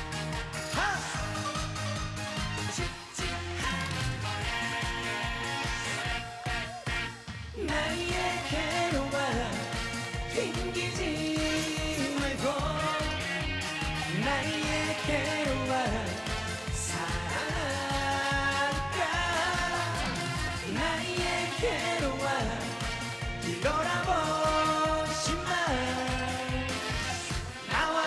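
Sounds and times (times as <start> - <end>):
trot song over sound system: 0.0 - 28.0.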